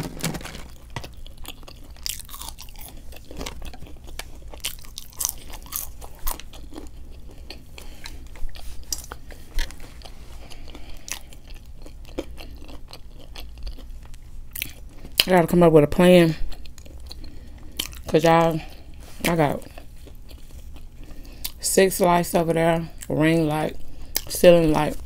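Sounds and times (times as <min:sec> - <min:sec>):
person chewing and crunching food: 0:00.0 - 0:25.0.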